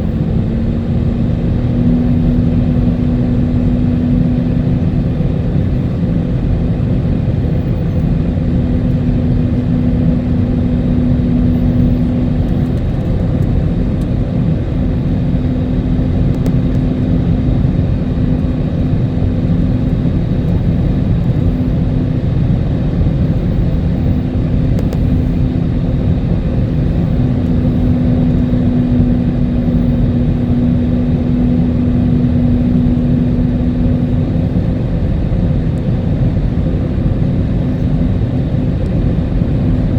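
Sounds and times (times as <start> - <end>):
aircraft engines rumbling: 0.0 - 39.9
steady low hum: 0.0 - 39.9.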